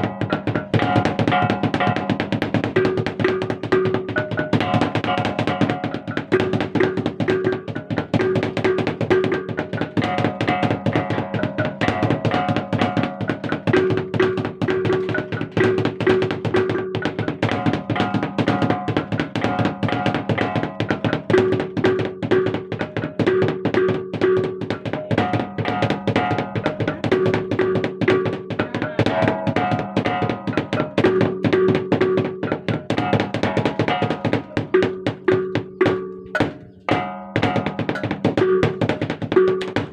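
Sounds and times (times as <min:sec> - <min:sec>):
fast continuous drumming: 0:00.0 - 0:39.9
gongs struck in repeating groups: 0:00.0 - 0:39.9.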